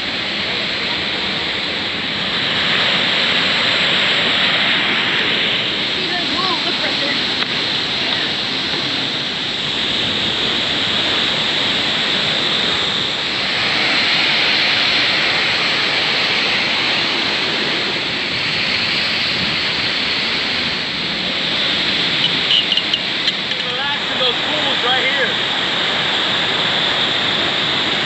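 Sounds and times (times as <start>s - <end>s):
river water and waterfall rushing: 0.0s - 28.0s.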